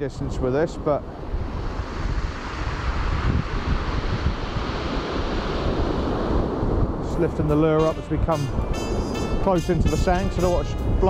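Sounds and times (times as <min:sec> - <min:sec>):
wind rumbling on microphone: 0:00.0 - 0:11.0
surf washing onto beach: 0:00.2 - 0:11.0.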